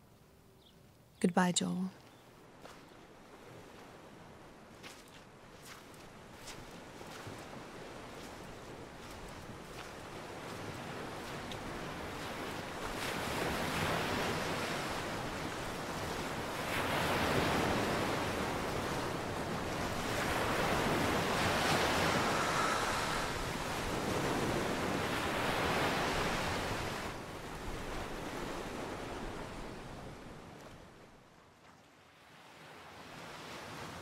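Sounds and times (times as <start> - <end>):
waves washing onto shore: 3.3 - 30.9.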